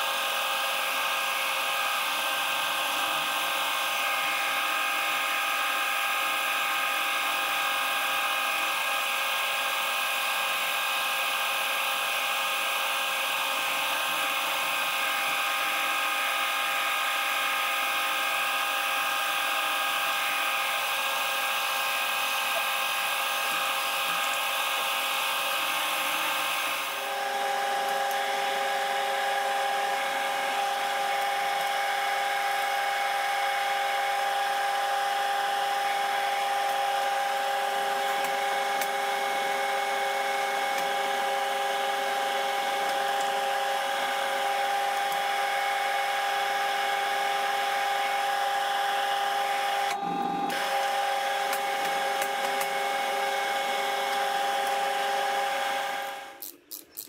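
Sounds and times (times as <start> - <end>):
milling machine spindle whine: 0.0 - 56.5
drill boring into metal: 0.0 - 57.0.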